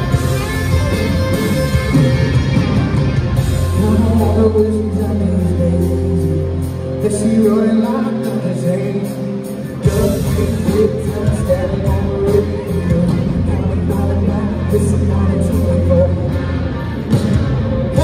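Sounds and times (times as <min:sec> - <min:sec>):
live country-rock band playing: 0:00.0 - 0:18.0.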